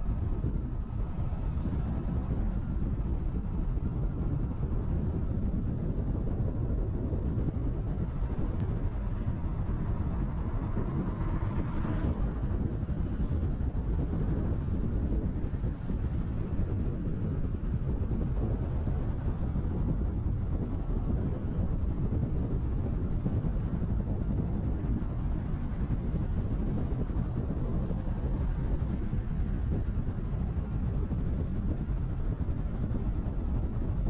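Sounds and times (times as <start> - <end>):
road and wind rumble: 0.0 - 34.0.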